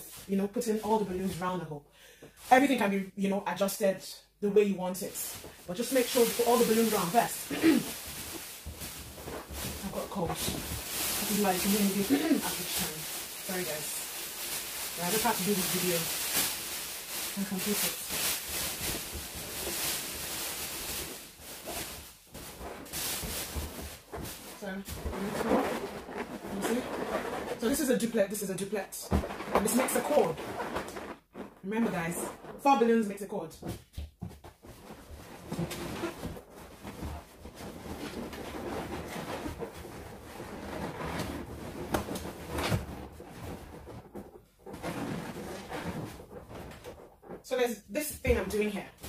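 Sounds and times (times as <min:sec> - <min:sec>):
balloons rubbing and rustling: 0:05.0 - 0:49.0.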